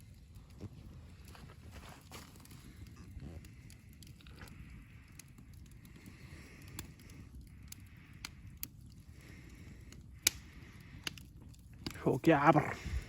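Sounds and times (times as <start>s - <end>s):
campfire burning: 0.0s - 13.0s
wood popping and cracking: 0.0s - 13.0s.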